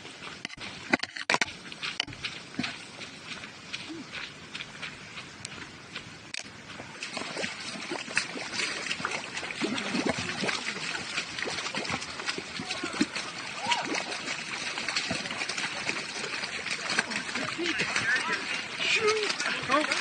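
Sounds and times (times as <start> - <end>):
feet splashing through water: 0.0 - 20.0
water trickling: 0.0 - 20.0.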